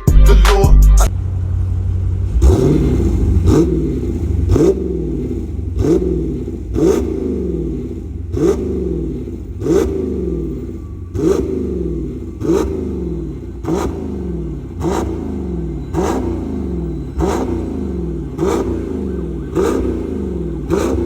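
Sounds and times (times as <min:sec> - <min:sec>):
car engine revving: 0:01.0 - 0:21.0.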